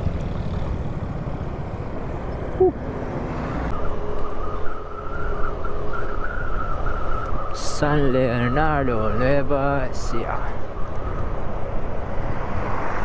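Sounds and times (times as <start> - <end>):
motorcycle engine and road hum: 0.0 - 13.0.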